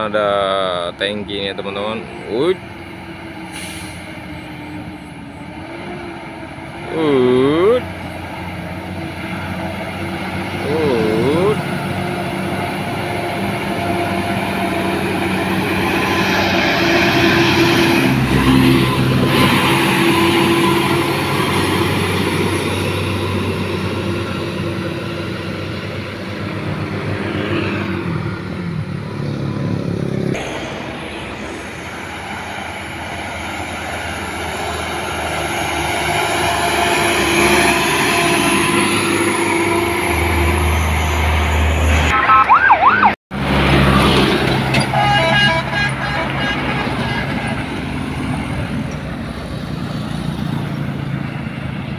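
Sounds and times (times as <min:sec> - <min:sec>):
truck engines straining: 0:00.0 - 0:51.9.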